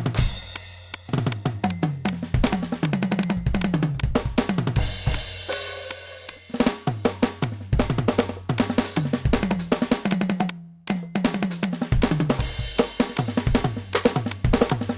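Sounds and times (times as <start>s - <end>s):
electronic drum fills: 0.0s - 14.9s.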